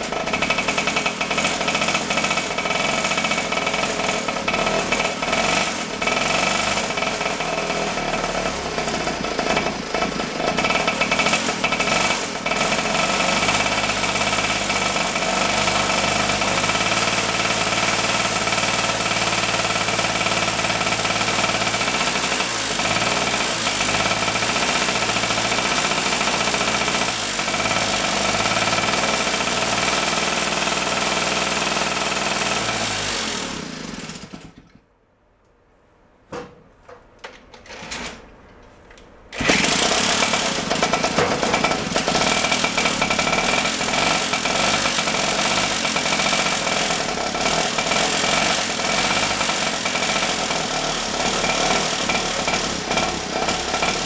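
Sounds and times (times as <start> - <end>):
small engine running unevenly: 0.0 - 34.8, 39.4 - 54.0.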